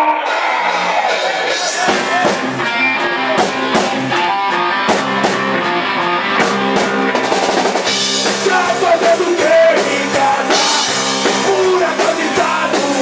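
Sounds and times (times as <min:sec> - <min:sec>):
drums keeping steady beat: 0:00.0 - 0:13.0
electric guitar chords: 0:00.0 - 0:13.0.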